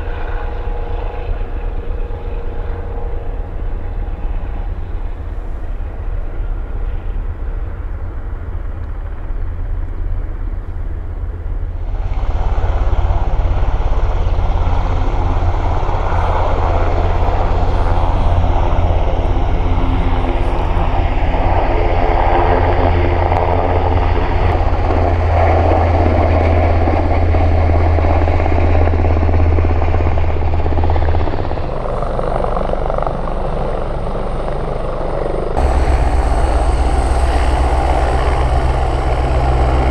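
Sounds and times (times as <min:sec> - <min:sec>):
helicopter rotor and engines: 0:00.0 - 0:39.9.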